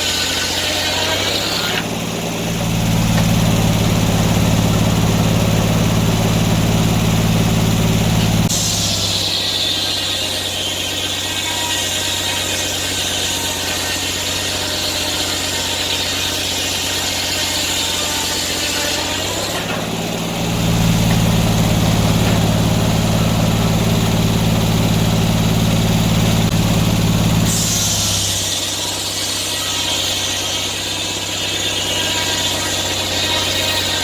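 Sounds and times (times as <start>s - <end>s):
sawmill engine running: 0.0s - 34.0s.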